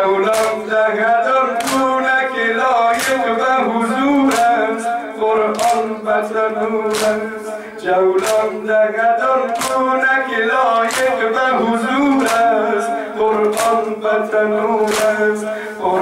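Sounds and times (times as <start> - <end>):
men singing a lament: 0.0 - 16.0
chest beating in unison: 0.2 - 14.2.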